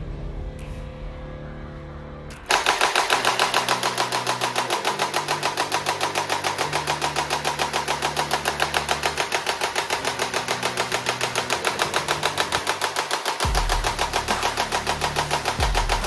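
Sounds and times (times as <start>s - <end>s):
background music with low notes: 0.0s - 16.0s
toy rifle clicking on full auto: 2.3s - 16.0s.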